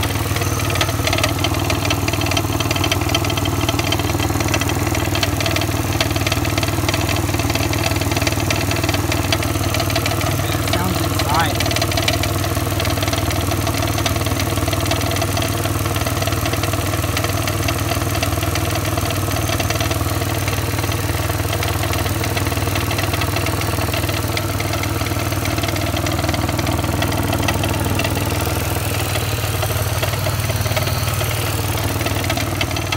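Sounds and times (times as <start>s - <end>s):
car engine idling with clacking: 0.0s - 32.9s.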